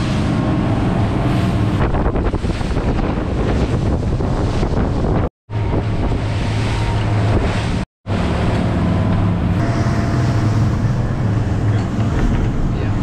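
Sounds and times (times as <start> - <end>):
boat engine humming: 0.0 - 13.0
wake and spray rushing: 0.0 - 13.0
wind buffeting microphone: 0.0 - 13.0.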